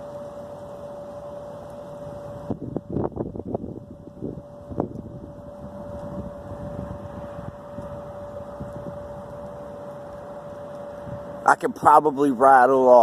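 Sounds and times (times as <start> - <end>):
low rumble: 0.0 - 12.2
machine hum: 0.0 - 13.0.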